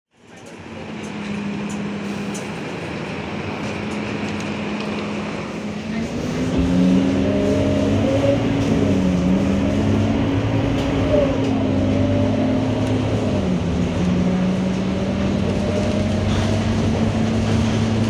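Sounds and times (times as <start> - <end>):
bus diesel engine idling: 0.1 - 18.0.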